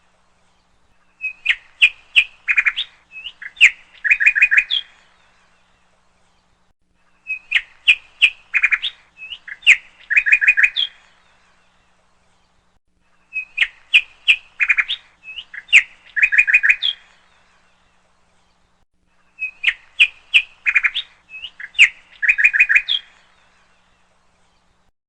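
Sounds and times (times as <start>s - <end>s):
songbird chirping and trilling: 0.0s - 24.9s.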